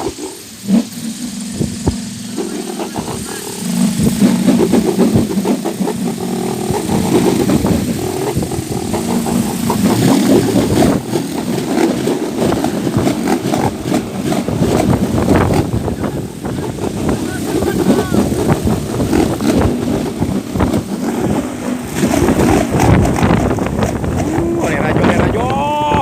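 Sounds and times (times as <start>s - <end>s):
propeller toy buzzing in wind: 0.0s - 26.0s.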